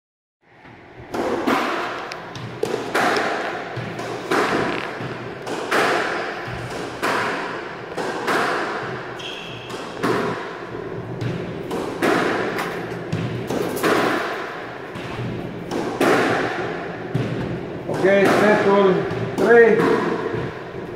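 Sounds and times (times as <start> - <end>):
squash racket strikes: 0.6 - 20.8
ball hitting court walls: 0.6 - 20.9.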